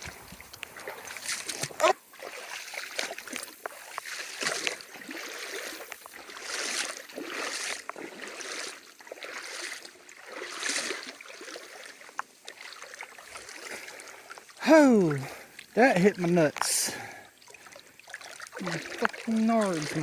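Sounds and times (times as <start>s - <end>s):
water sloshing from wading: 0.0s - 20.0s.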